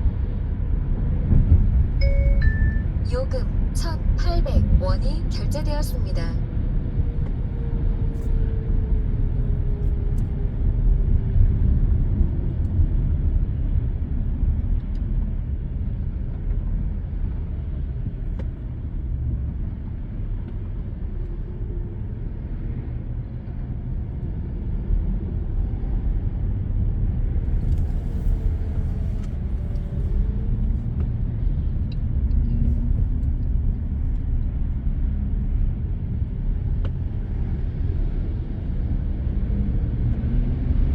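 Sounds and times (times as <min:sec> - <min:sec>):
car road rumble from inside: 0:00.0 - 0:40.9.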